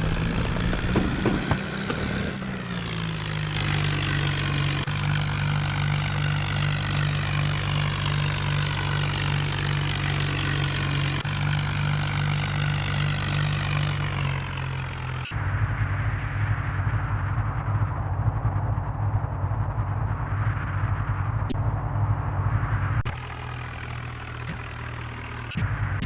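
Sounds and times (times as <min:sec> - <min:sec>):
tractor diesel engine running: 0:00.0 - 0:16.5, 0:19.3 - 0:26.0.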